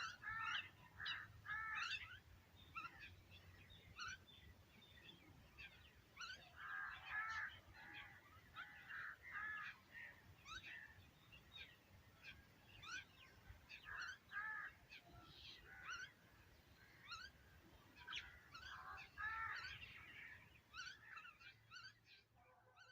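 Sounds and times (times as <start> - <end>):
harsh caw-like bird calls: 0.0 - 22.9.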